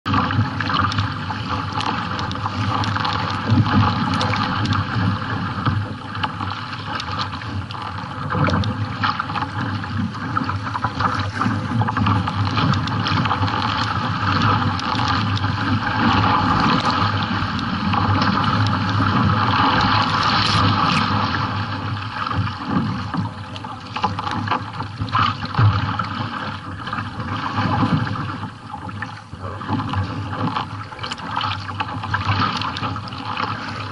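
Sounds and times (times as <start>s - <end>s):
water slapping against kayak hull: 0.1s - 33.9s.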